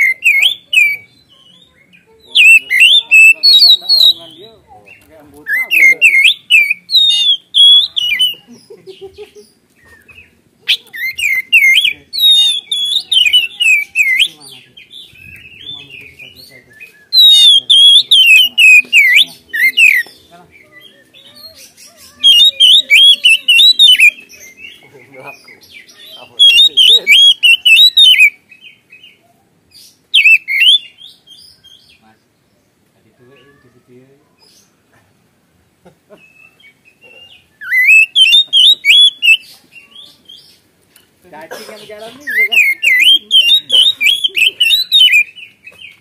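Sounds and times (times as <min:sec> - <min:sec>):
magpie-robin singing: 0:00.0 - 0:34.9, 0:36.2 - 0:46.0.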